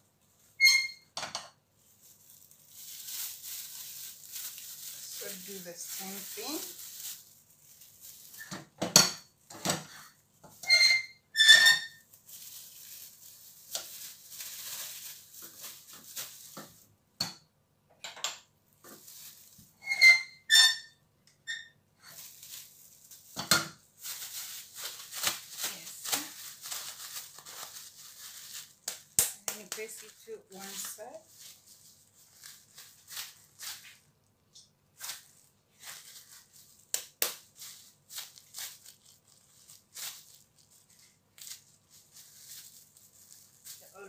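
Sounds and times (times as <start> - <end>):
plastic bag rustling: 0.0 - 9.5, 11.8 - 17.0, 18.7 - 19.8, 22.0 - 34.2, 34.8 - 44.0.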